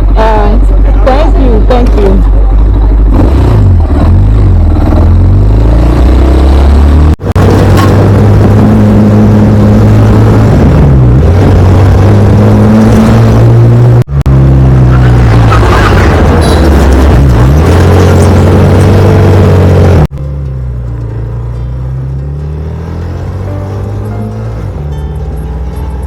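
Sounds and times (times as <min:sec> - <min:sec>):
motorcycle engine accelerating: 0:02.1 - 0:26.0.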